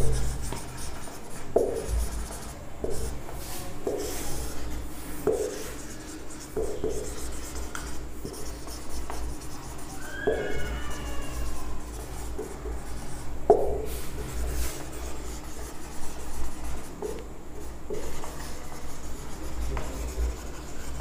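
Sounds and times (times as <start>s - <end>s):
marker writing on whiteboard: 0.0s - 21.0s.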